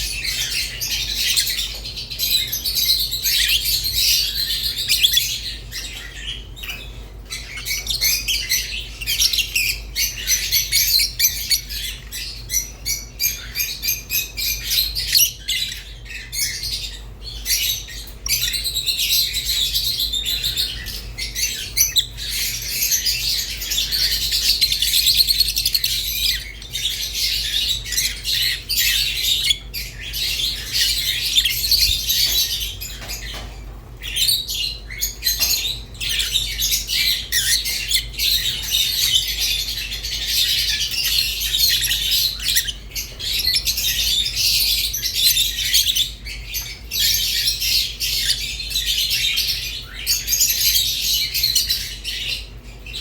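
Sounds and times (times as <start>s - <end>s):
lovebirds chirping and chattering: 0.0s - 53.0s.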